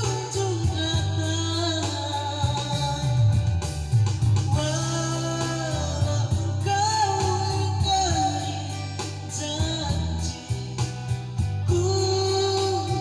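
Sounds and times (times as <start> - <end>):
man singing into a microphone: 0.0 - 3.6, 4.5 - 13.0
electronic keyboard accompaniment: 0.0 - 13.0.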